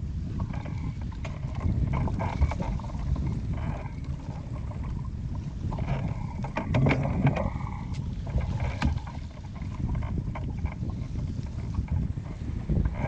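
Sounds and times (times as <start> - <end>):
wind rumbling on microphone: 0.0 - 13.0
water splashing: 0.4 - 13.0.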